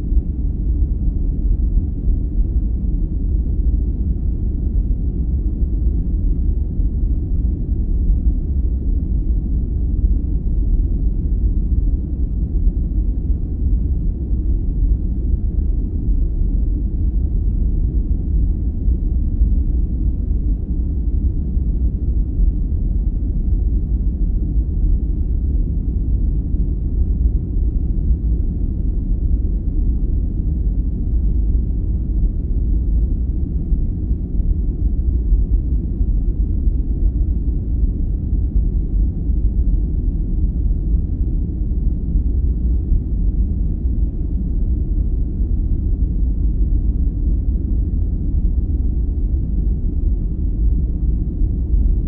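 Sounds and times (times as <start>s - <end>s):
deep low rumble: 0.0s - 52.0s.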